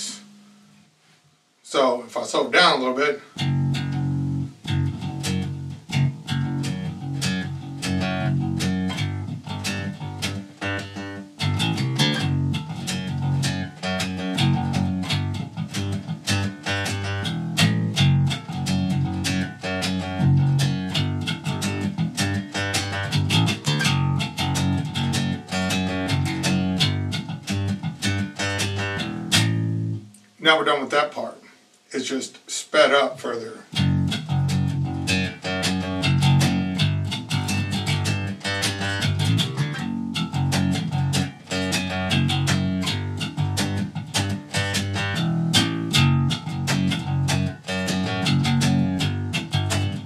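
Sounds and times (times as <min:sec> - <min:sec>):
electric bass fast riff: 0:03.4 - 0:30.0, 0:33.7 - 0:50.0.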